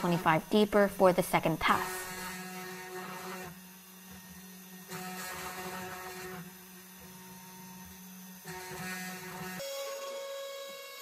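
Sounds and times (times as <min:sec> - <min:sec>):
end mill cutting wood: 0:00.0 - 0:11.0
router spindle hum: 0:00.0 - 0:11.0.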